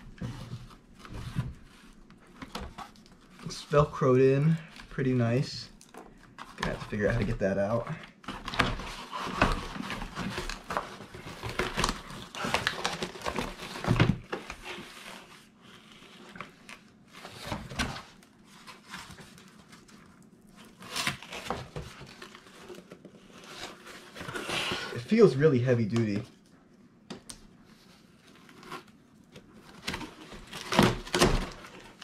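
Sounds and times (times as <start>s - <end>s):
cardboard rustling and crinkling: 0.0s - 26.4s, 27.4s - 32.0s.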